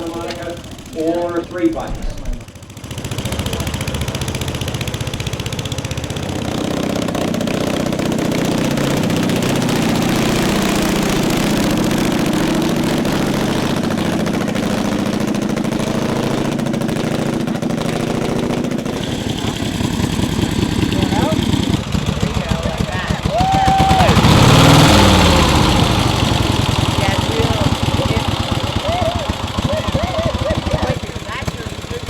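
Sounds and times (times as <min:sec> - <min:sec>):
motorcycle engines running: 0:00.0 - 0:32.0.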